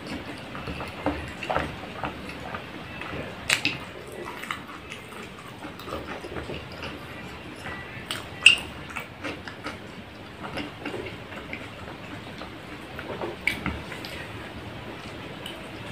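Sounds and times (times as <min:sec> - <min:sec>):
close chewing with mouth clicks: 0:00.0 - 0:15.9.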